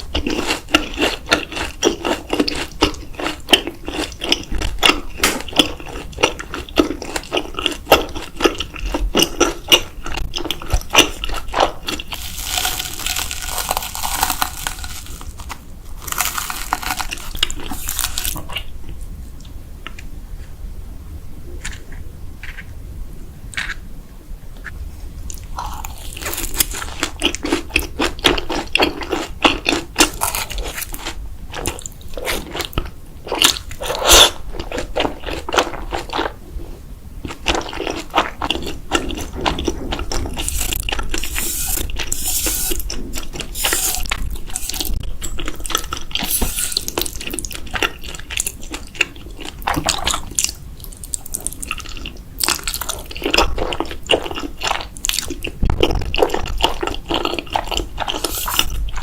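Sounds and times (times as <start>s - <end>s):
crunchy chewing sounds: 0.0s - 20.6s, 24.6s - 59.0s.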